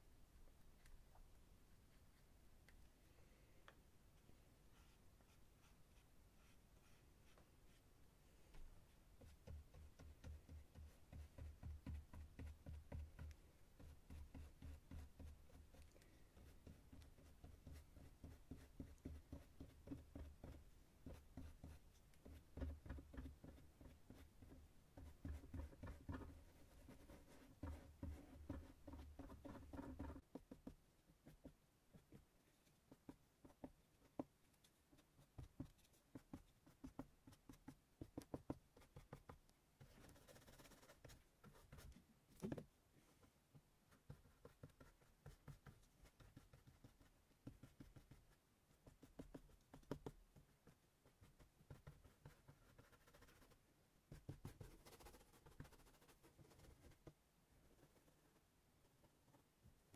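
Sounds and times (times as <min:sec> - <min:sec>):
scratching and tapping on cardboard: 0:08.5 - 0:59.6.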